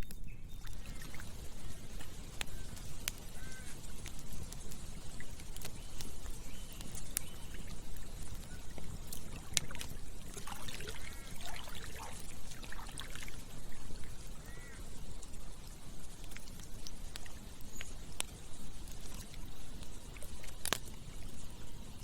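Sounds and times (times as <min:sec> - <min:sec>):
campfire crackling and popping: 0:00.0 - 0:22.0
stream water trickling: 0:00.4 - 0:22.0.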